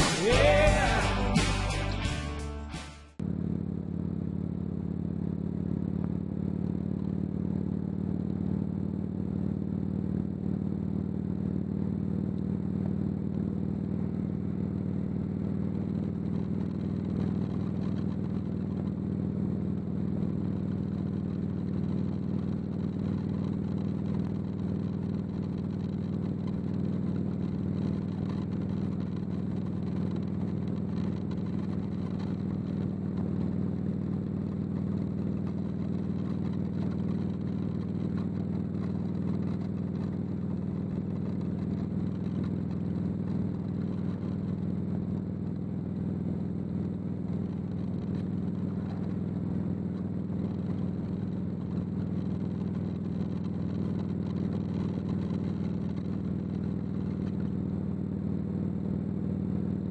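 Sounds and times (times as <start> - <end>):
motorcycle engine cruising: 0.0 - 59.9
wind and road noise: 3.2 - 59.9.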